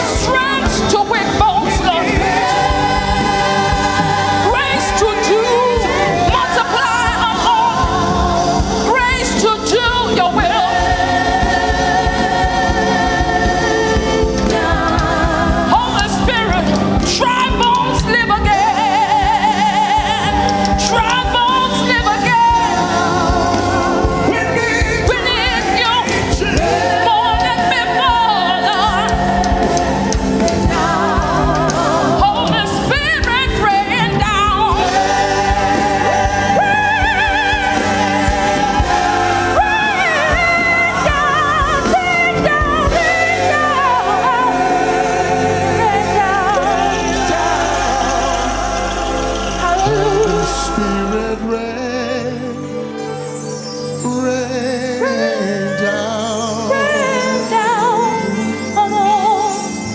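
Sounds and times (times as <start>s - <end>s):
choir singing gospel: 0.0s - 59.9s
instrumental accompaniment: 0.0s - 59.9s.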